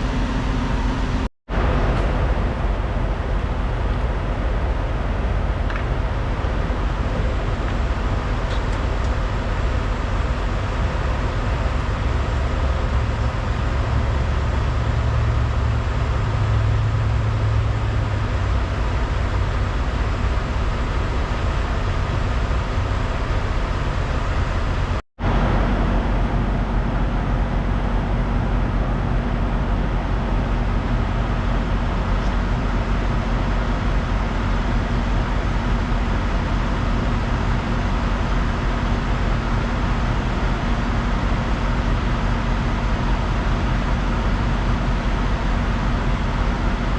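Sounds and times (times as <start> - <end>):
truck engine and road noise: 0.0 - 46.9.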